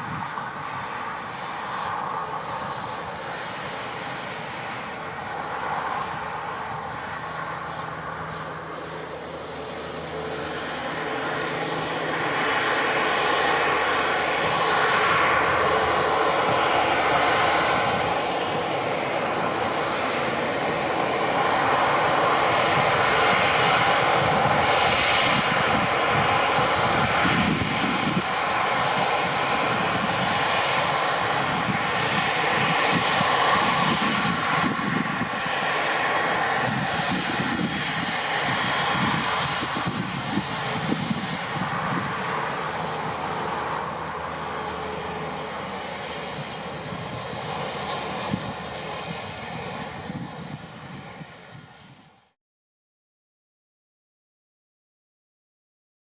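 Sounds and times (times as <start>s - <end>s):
jet engines roaring: 0.0s - 52.3s.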